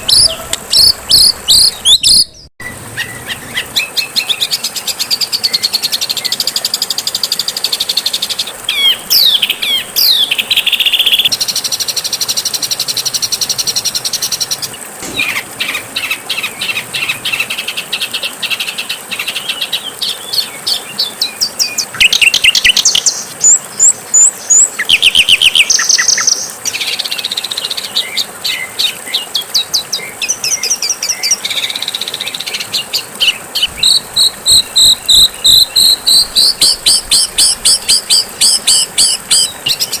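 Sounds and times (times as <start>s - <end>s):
songbird calls: 0.0s - 6.7s, 7.5s - 11.3s, 13.4s - 40.0s.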